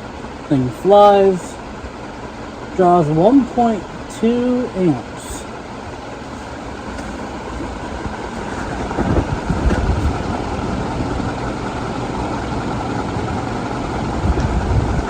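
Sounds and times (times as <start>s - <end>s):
ceiling fan rushing air: 0.0s - 15.0s.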